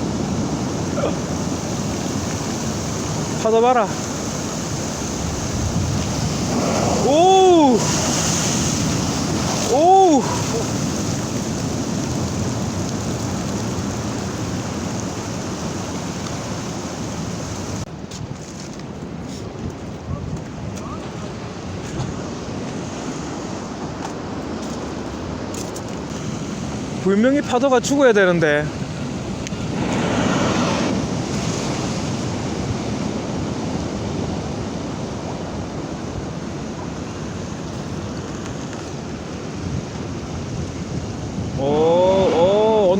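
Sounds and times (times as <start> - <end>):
sea waves breaking: 0.0 - 18.1, 18.9 - 42.9.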